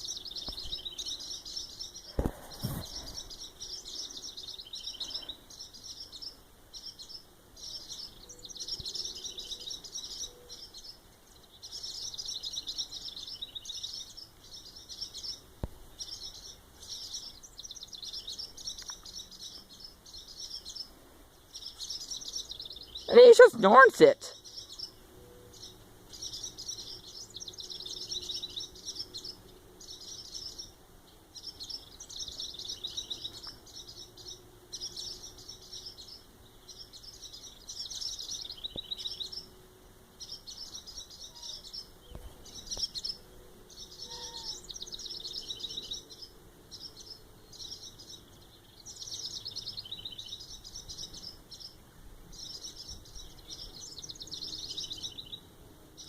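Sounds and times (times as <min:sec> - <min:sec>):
small birds chirping rapidly: 0:00.0 - 0:56.0.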